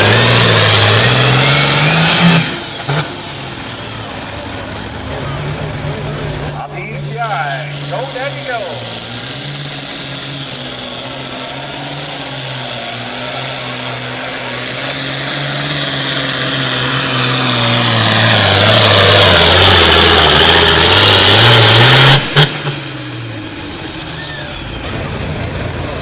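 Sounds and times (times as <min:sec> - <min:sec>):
tractor diesel engine: 0:00.0 - 0:26.0.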